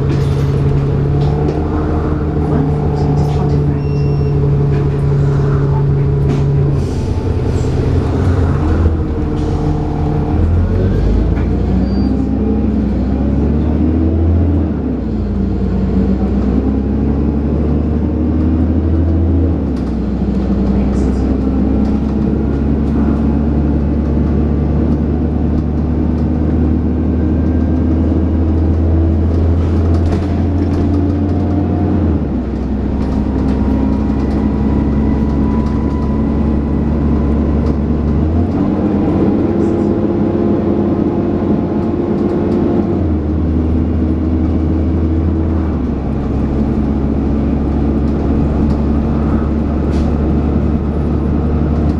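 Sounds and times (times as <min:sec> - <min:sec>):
bus engine under load: 0:00.0 - 0:51.9.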